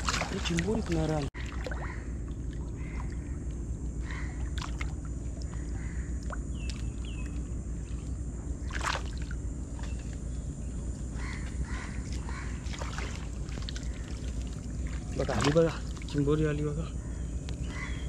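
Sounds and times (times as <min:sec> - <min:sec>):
steady low hum: 0:00.0 - 0:18.0
water sloshing around boat: 0:00.0 - 0:18.0.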